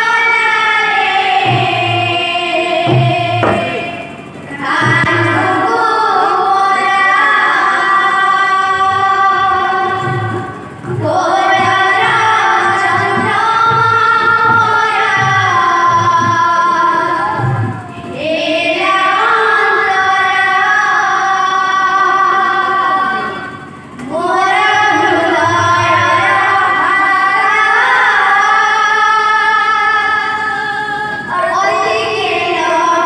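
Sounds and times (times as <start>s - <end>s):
barrel drum strokes: 0.0s - 20.8s, 23.1s - 29.0s.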